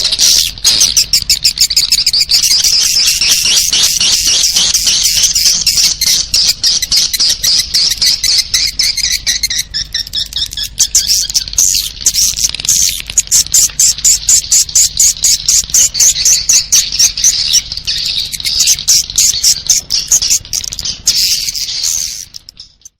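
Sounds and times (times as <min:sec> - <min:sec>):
high-pitched bird twittering chirps: 0:00.0 - 0:22.9.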